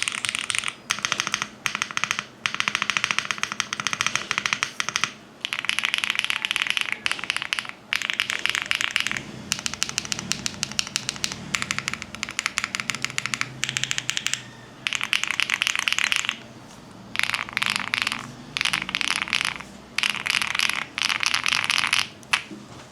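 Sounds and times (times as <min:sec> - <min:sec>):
mechanical keyboard typing: 0:00.0 - 0:16.5, 0:17.2 - 0:22.5.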